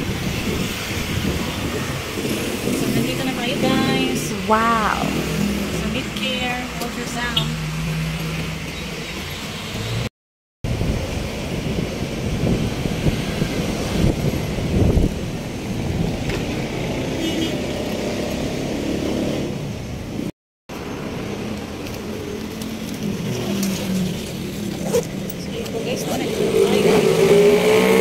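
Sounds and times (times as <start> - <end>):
road traffic passing: 0.0 - 10.1, 10.7 - 28.0.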